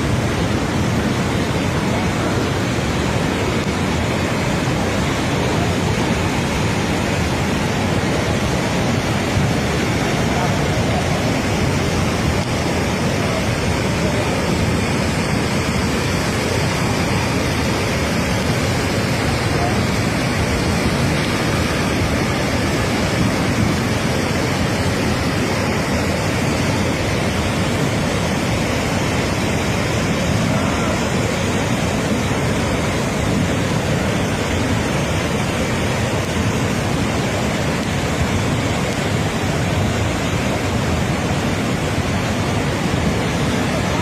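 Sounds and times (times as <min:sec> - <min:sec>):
fast-flowing floodwater rushing: 0:00.0 - 0:44.0.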